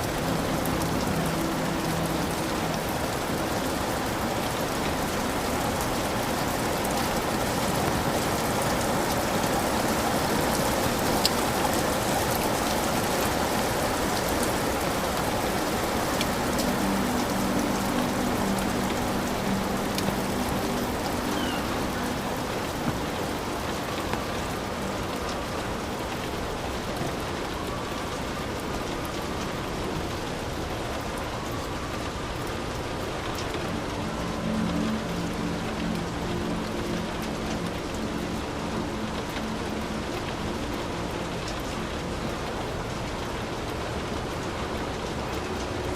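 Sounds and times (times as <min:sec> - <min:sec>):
heavy rain on a hut: 0:00.0 - 0:45.9.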